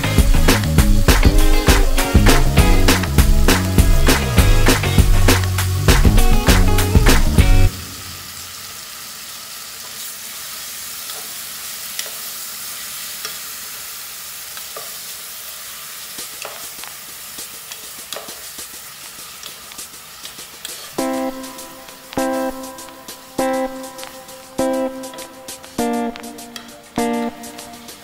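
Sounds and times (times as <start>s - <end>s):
meat and onions sizzling in a pot: 0.0s - 5.8s, 6.7s - 28.0s.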